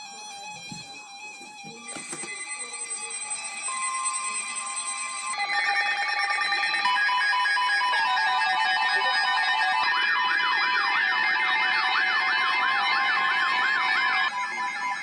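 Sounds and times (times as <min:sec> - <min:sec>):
siren-like warble: 0:01.6 - 0:15.0.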